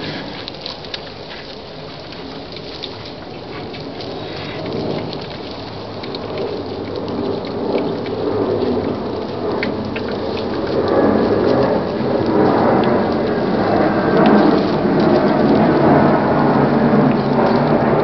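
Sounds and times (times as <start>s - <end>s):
airplane passing overhead: 0.0s - 18.0s.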